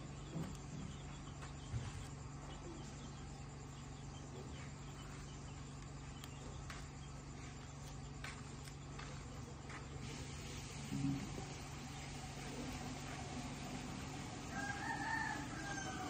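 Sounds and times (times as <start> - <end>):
insects chirping: 0.0 - 16.0
steady low hum: 0.0 - 16.0.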